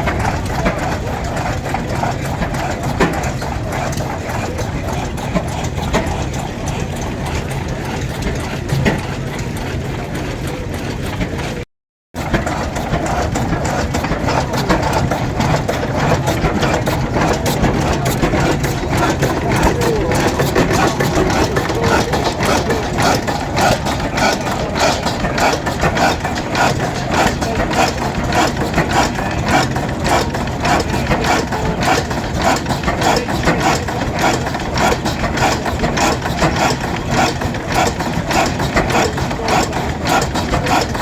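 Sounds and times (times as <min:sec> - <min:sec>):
engine running steadily: 0:00.0 - 0:11.6, 0:12.2 - 0:41.0.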